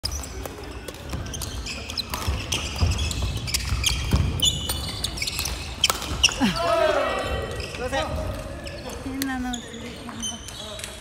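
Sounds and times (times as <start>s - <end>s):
shoes squeaking on floor: 0.0s - 6.6s, 7.2s - 10.8s.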